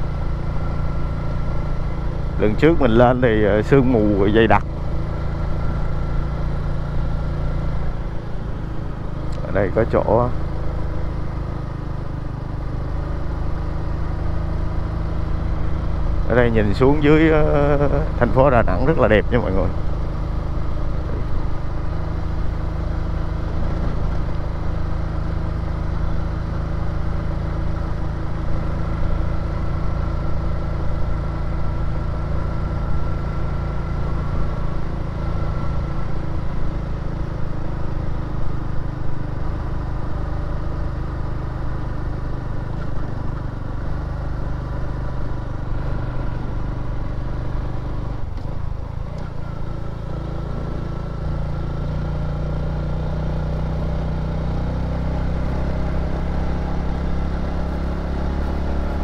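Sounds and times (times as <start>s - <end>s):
motorbike engine climbing uphill: 0.0s - 59.0s.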